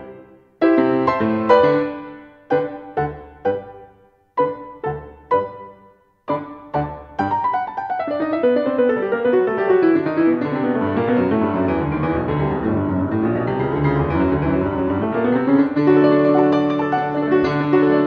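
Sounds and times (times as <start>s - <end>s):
solo piano: 0.0s - 18.0s.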